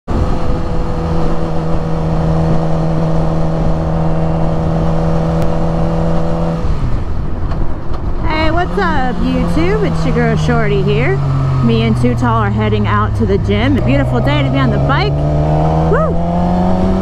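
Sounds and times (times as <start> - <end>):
motorcycle engine cruising: 0.1 - 17.0
wind rushing on microphone: 0.1 - 17.0.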